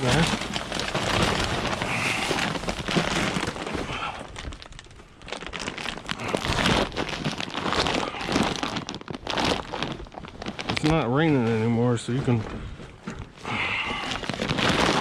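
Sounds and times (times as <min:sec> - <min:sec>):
plastic bags rustling and crinkling: 0:00.0 - 0:15.0.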